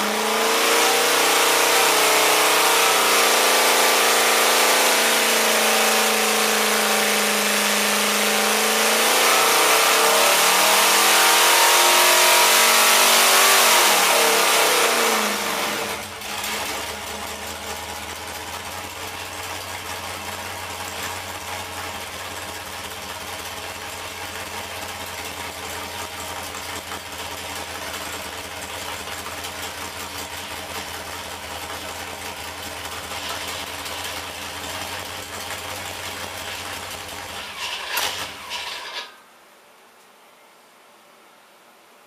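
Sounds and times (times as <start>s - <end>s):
car engine running on dyno: 0.0s - 38.5s.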